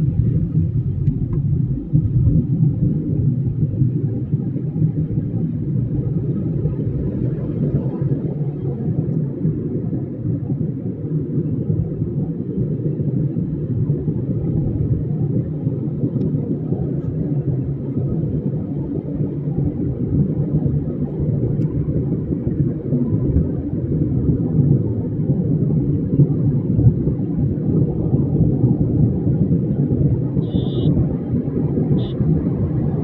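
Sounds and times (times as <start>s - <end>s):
moving vehicle rumble: 0.0s - 33.0s.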